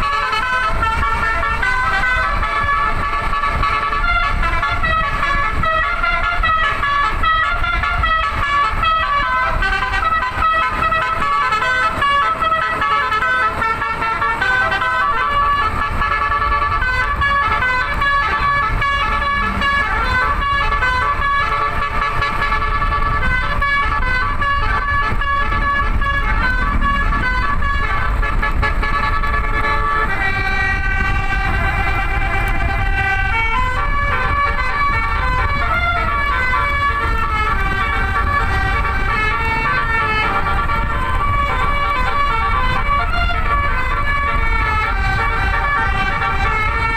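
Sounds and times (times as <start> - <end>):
multi-tone bus horn melody: 0.0 - 46.9
steady low rumble: 0.0 - 46.9.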